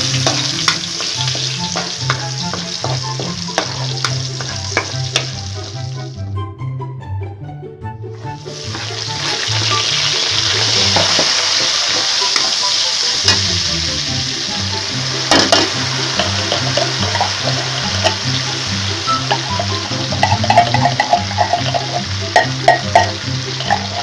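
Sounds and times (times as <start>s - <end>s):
metal spatula scraping wok: 0.0s - 6.0s, 8.3s - 13.5s, 15.0s - 24.0s
garlic and onion sizzling in oil: 0.0s - 6.2s, 8.2s - 24.0s.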